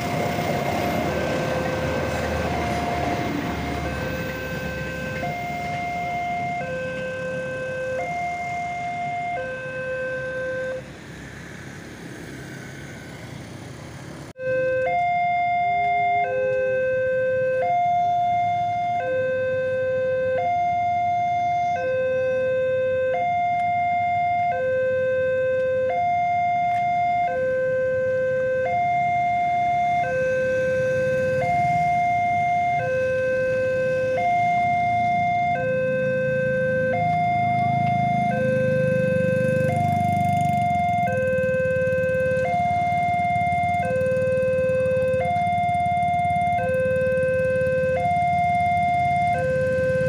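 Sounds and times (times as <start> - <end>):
level crossing two-tone alarm: 0.0 - 10.8, 14.4 - 50.0.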